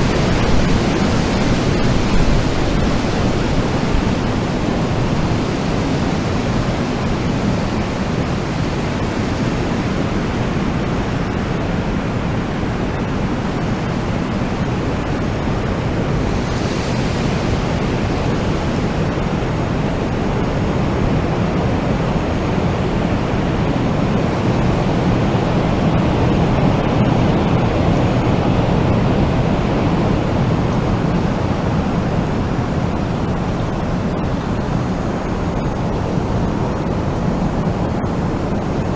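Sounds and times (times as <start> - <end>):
wind blowing: 0.0 - 38.9.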